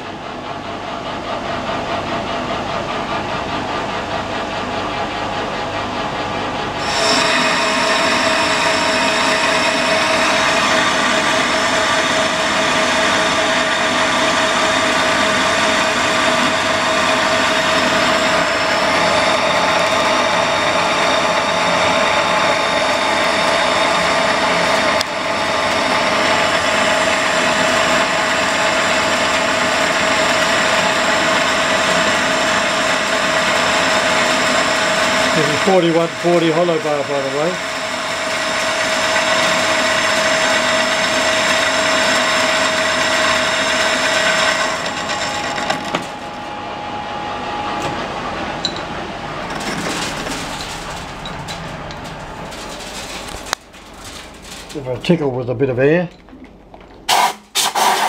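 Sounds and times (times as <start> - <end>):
metal lathe cutting steel: 6.5 - 54.9.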